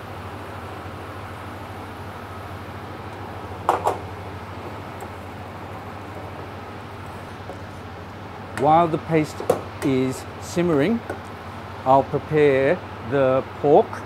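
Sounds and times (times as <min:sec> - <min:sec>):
steady kitchen hum: 0:00.0 - 0:14.0.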